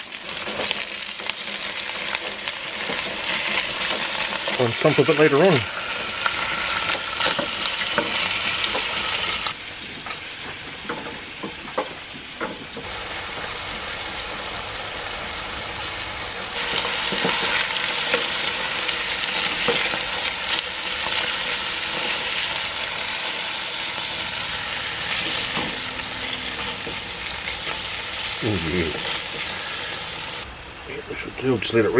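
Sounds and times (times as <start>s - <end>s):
steaks sizzling in a frying pan: 0.0s - 9.6s, 10.7s - 30.4s.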